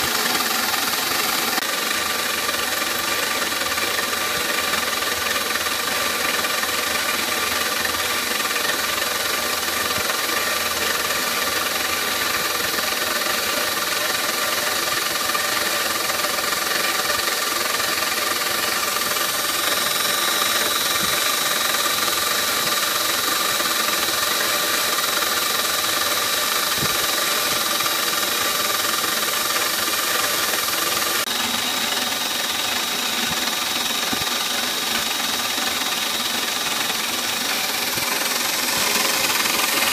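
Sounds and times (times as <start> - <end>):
milling machine cutting plastic: 0.0 - 39.9.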